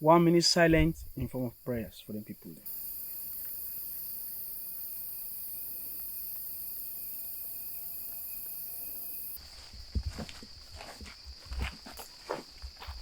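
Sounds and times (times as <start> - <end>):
rainforest insects chorus: 0.0 - 13.0.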